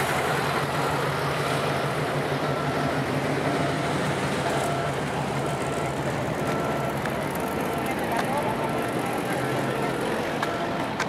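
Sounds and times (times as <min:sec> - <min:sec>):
car engines humming: 0:00.0 - 0:11.0
traffic noise: 0:00.0 - 0:11.0.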